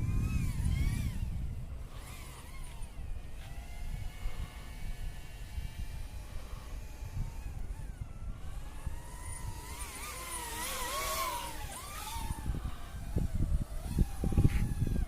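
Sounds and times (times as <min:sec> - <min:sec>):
drone propellers whining: 0:00.0 - 0:15.0
wind buffeting microphone: 0:00.0 - 0:15.0.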